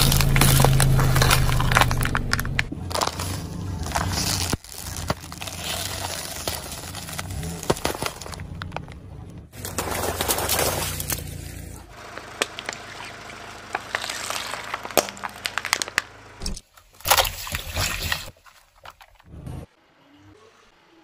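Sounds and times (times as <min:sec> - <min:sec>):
plastic bottle crackling under tyre: 0:00.0 - 0:19.3.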